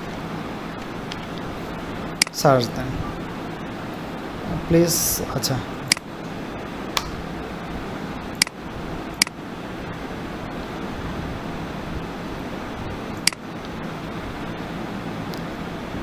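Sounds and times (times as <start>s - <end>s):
background hiss and hum: 0.0s - 16.0s.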